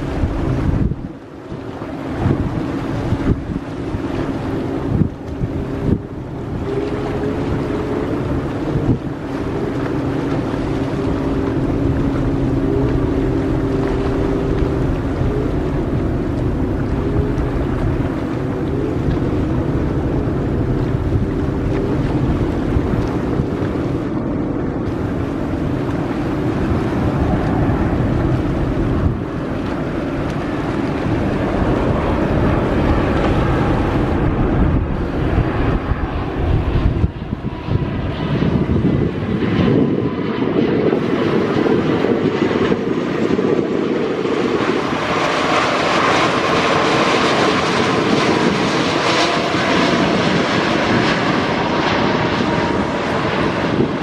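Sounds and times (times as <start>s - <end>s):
jet engines rumbling: 0.0s - 54.0s
wind buffeting microphone: 0.0s - 54.0s.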